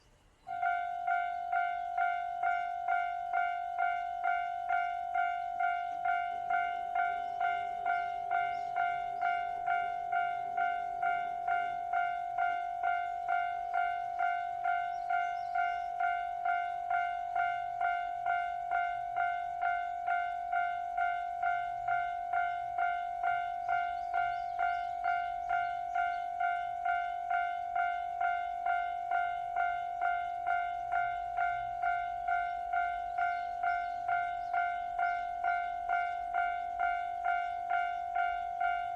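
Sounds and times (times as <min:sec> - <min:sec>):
railroad crossing bell clanging: 0:00.0 - 0:38.9.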